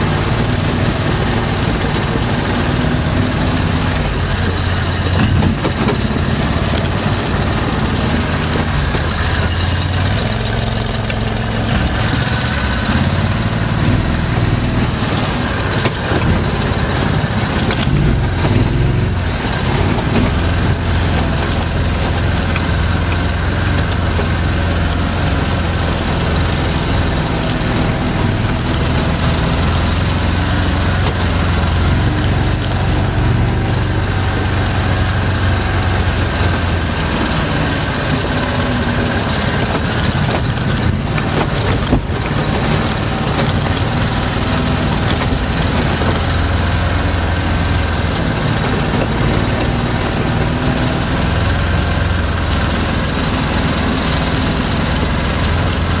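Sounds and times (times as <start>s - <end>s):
off-road vehicle engine: 0.0s - 56.0s.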